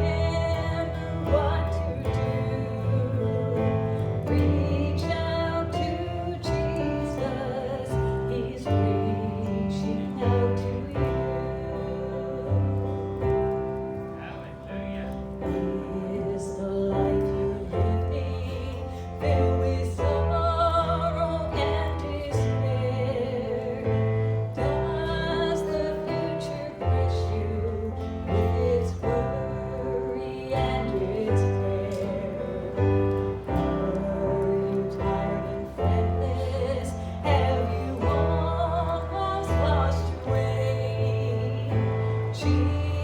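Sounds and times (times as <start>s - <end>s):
person singing: 0.0s - 13.6s, 15.2s - 43.0s
low bass line: 0.0s - 43.0s.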